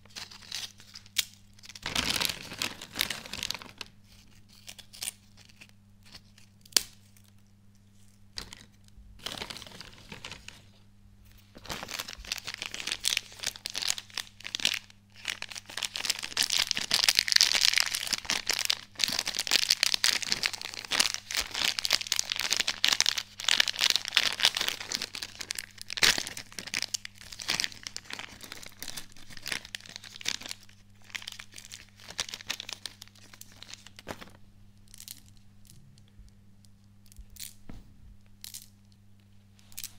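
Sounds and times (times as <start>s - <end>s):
plastic packet crinkling and tearing: 0.0s - 10.7s, 11.6s - 35.8s.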